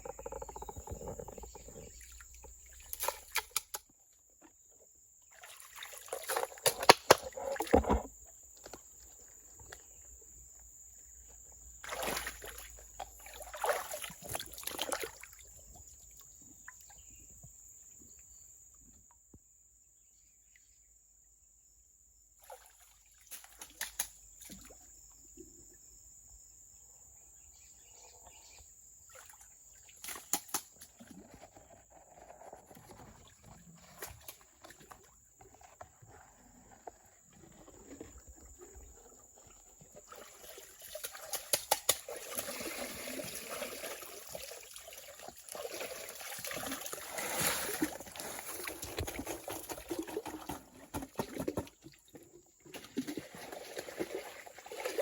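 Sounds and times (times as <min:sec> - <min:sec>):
water trickling and sloshing: 0:00.0 - 0:19.2, 0:22.4 - 0:25.9, 0:27.5 - 0:55.0.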